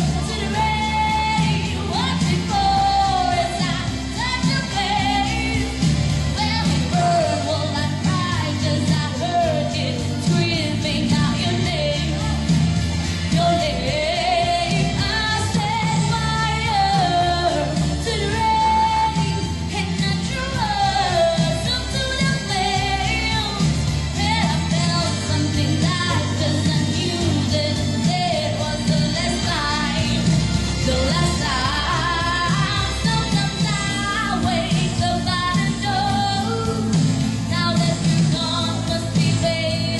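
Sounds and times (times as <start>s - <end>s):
pop music accompaniment: 0.0s - 39.9s
woman singing into a microphone: 0.0s - 39.9s.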